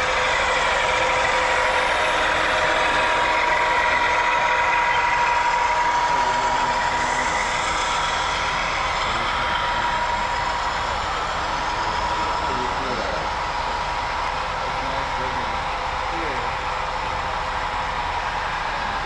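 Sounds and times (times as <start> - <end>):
model diesel engine sound: 0.0 - 19.0
steady high whine: 0.0 - 19.0.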